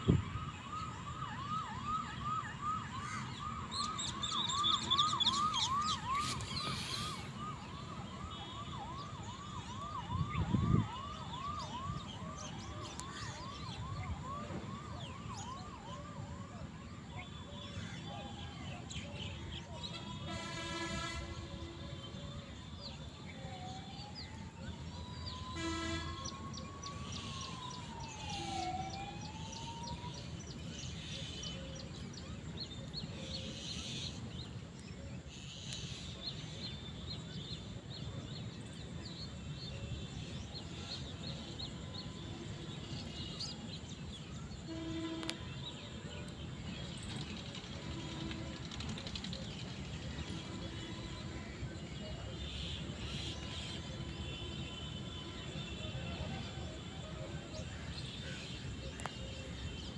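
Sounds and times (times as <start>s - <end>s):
low traffic rumble: 0.0s - 59.9s
siren wailing: 0.0s - 59.9s.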